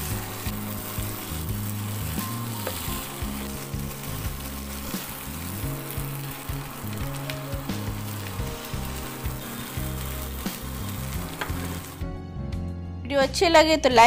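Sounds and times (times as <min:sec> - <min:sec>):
food sizzling in a pan: 0:00.0 - 0:12.0
background music: 0:00.0 - 0:14.0.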